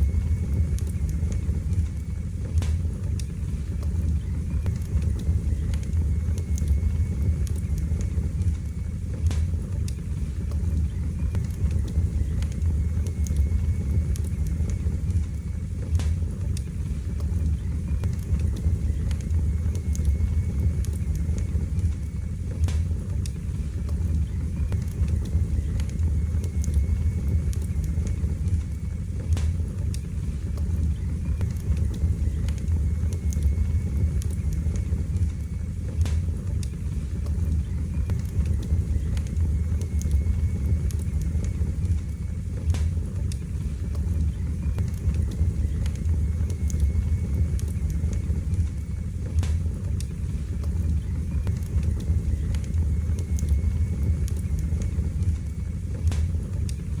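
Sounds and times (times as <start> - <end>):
flames rumbling: 0.0 - 57.0
wood fire crackles and pops: 0.0 - 57.0.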